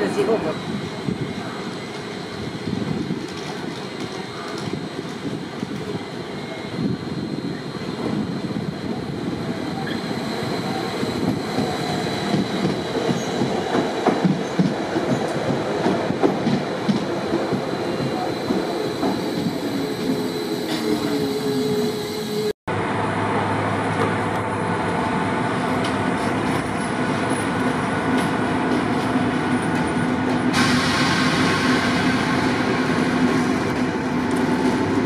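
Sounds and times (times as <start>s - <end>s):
train rumbling slowly: 0.0s - 35.0s.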